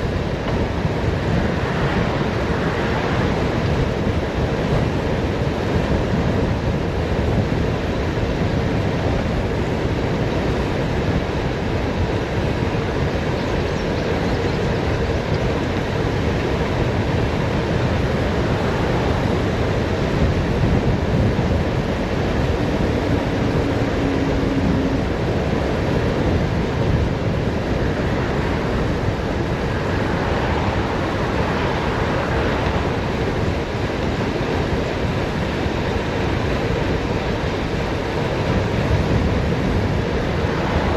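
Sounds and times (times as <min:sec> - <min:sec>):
road noise: 0:00.0 - 0:40.9
wind rushing over microphone: 0:00.0 - 0:40.9.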